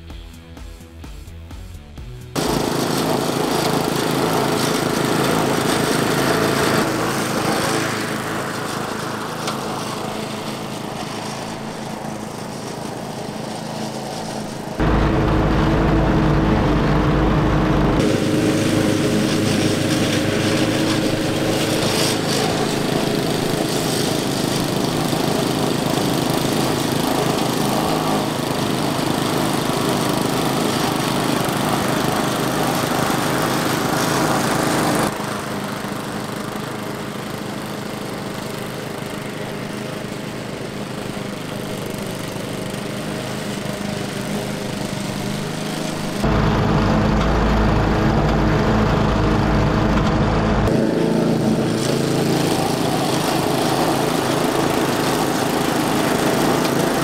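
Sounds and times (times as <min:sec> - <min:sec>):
lawn mower engines running: 0:00.0 - 0:57.0.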